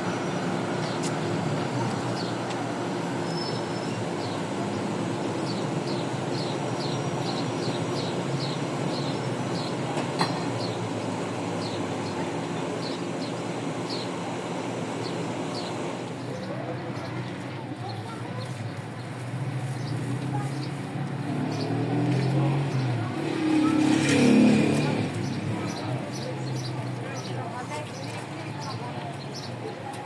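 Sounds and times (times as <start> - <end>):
small birds chirping: 0.1 - 19.2, 24.5 - 29.9.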